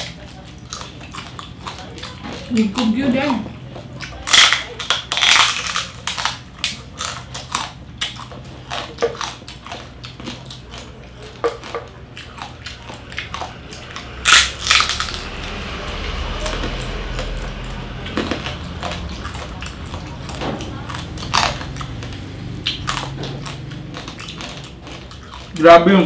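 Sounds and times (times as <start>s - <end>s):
crunching crispy pork skin: 3.8s - 26.0s.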